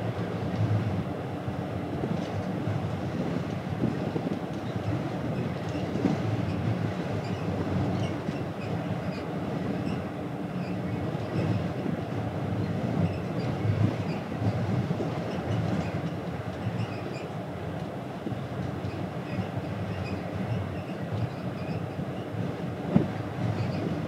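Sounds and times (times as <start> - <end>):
ferry engine low rumble: 0.0 - 24.0.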